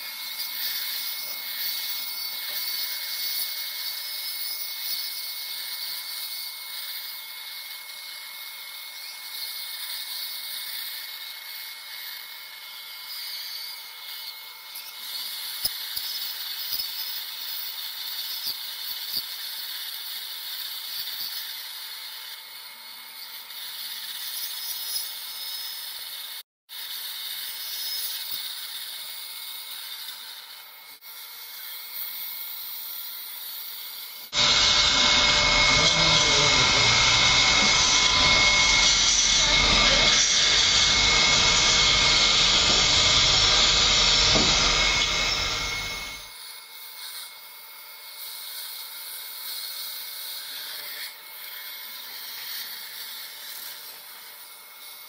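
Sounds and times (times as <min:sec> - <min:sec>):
dental drill whine: 0:00.0 - 0:55.0.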